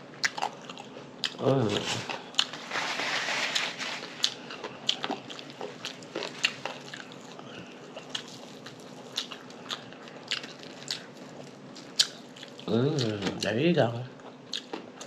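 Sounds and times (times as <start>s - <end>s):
wet chewing: 0.2s - 2.6s, 4.1s - 13.5s, 14.2s - 15.0s.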